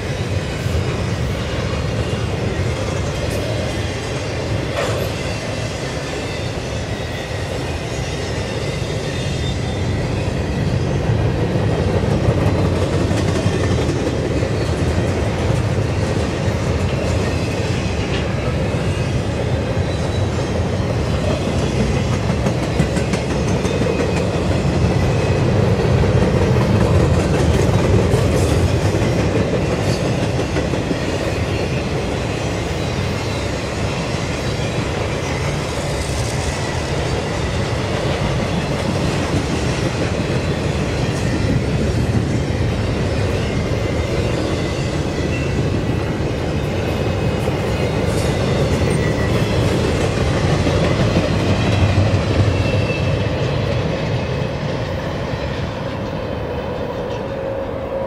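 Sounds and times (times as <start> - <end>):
freight train wheels clattering: 0.0 - 57.7.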